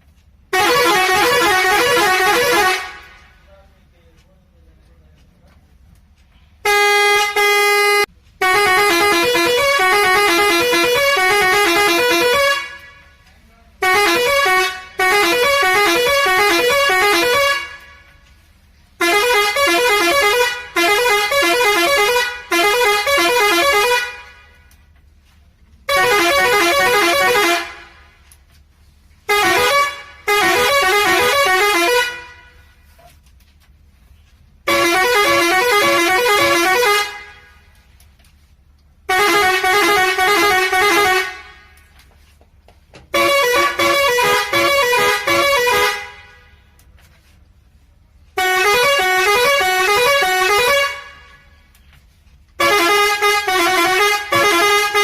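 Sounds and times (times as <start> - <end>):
truck musical horn: 0.4 - 3.5, 6.6 - 13.2, 13.8 - 28.2, 29.2 - 33.1, 34.5 - 37.8, 39.0 - 42.0, 43.0 - 51.8, 52.5 - 55.0.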